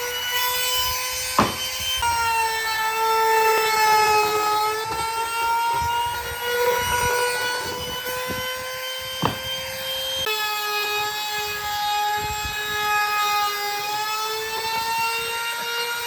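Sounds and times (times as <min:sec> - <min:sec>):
power tool motor whining: 0:00.0 - 0:16.0.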